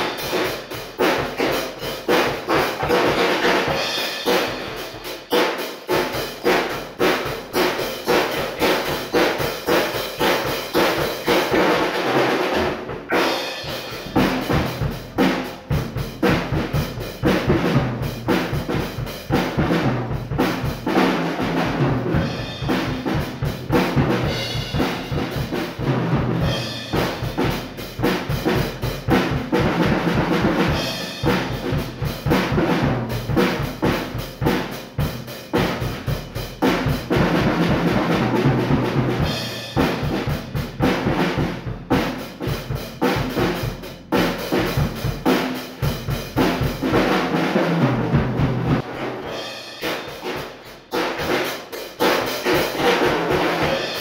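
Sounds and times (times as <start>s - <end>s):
acoustic drum kit playing: 0.0s - 54.0s.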